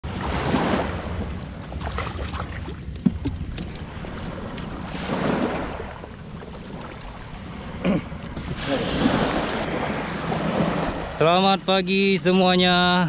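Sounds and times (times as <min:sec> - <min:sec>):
wind rumble on microphone: 0:00.0 - 0:11.8
small waves washing onto beach: 0:00.0 - 0:12.7.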